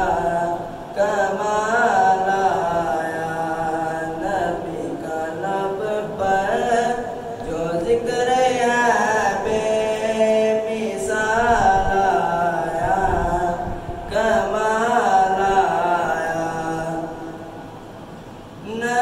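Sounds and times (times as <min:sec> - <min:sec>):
man singing unaccompanied: 0:00.0 - 0:17.6, 0:18.6 - 0:19.0.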